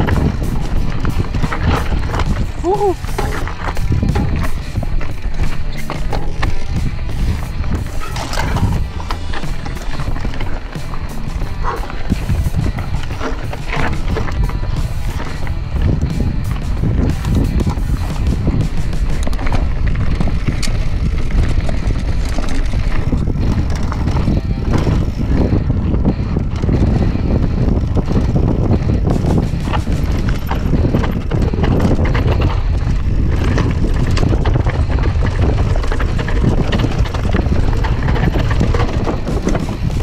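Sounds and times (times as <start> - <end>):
mountain bike rattling over rocks: 0.0 - 40.0
wind on microphone: 0.0 - 40.0.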